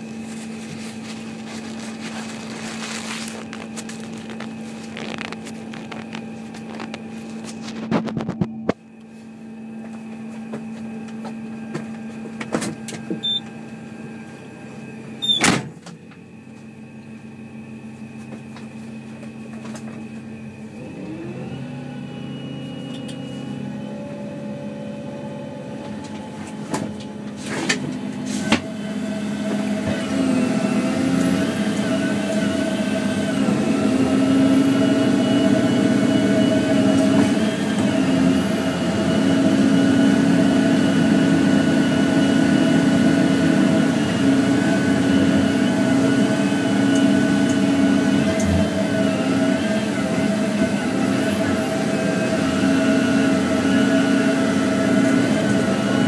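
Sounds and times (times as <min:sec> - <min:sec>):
hydraulics whining: 0:00.0 - 0:09.1, 0:19.7 - 0:56.0
diesel engine running: 0:00.0 - 0:56.0.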